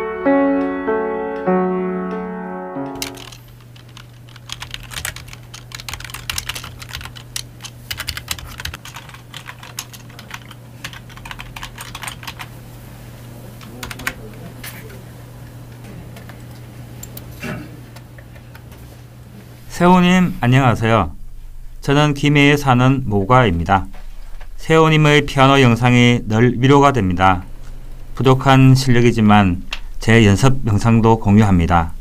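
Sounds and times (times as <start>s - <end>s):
steady low hum: 2.5s - 32.0s.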